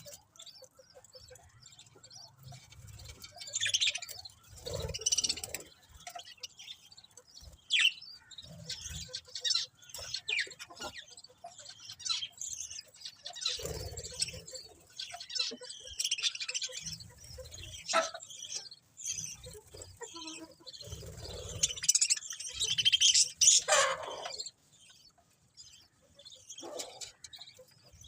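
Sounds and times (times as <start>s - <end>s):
budgerigars chirping: 0.0s - 28.0s.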